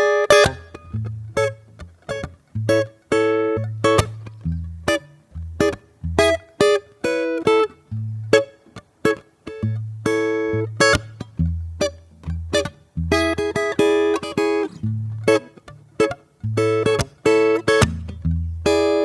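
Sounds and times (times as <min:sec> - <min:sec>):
acoustic guitar playing: 0:00.0 - 0:19.0.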